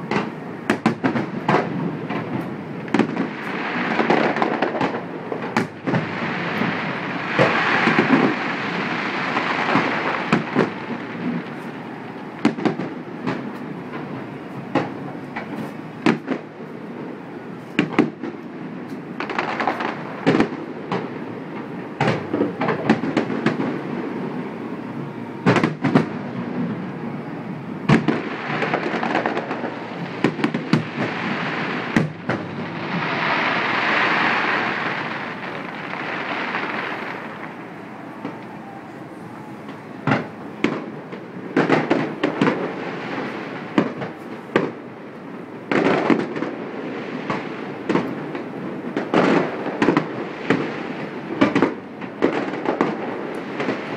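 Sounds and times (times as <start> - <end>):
firework bangs and booms: 0.0 - 53.9.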